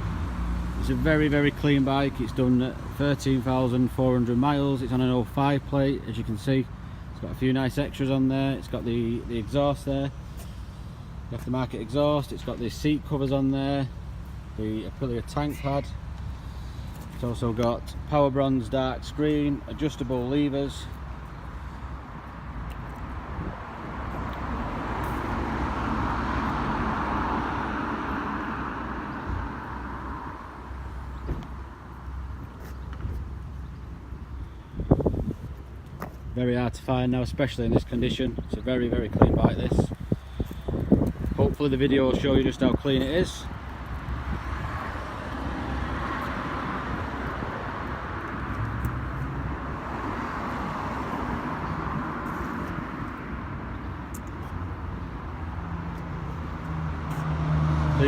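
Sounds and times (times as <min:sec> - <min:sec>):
road vehicle passing: 0:00.0 - 0:05.0, 0:08.6 - 0:35.8, 0:38.7 - 0:58.0.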